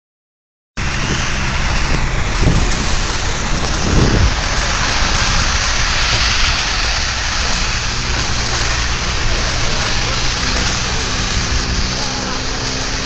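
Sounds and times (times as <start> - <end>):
heavy rain and wind on vehicle: 0.8 - 13.0
low rumble: 0.8 - 13.0.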